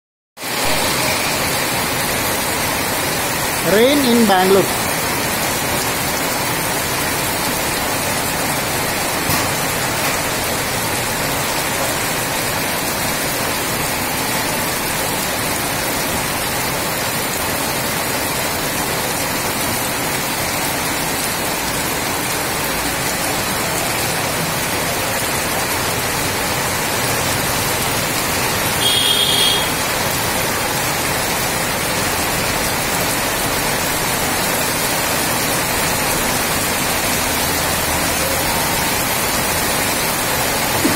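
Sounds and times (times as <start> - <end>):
heavy rain on flooded street: 0.4 - 40.9.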